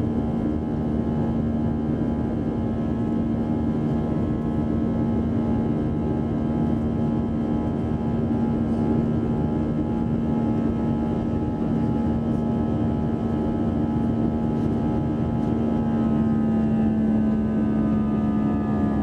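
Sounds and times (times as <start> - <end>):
jet engines heard in cabin: 0.0 - 19.0.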